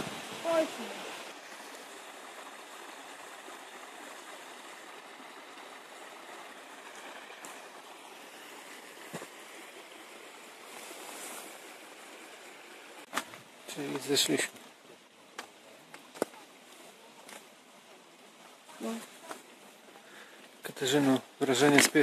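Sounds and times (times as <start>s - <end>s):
mountain stream rushing: 0.0s - 22.0s.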